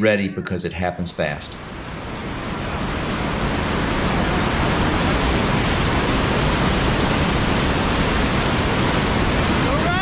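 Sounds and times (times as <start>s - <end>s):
river water rushing over rocks: 1.6s - 10.0s.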